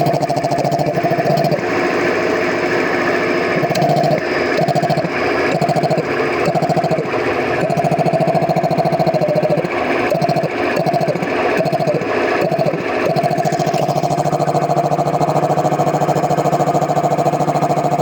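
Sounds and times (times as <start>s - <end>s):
air compressor pulsing: 0.0s - 18.0s
low compressor hum: 0.0s - 18.0s.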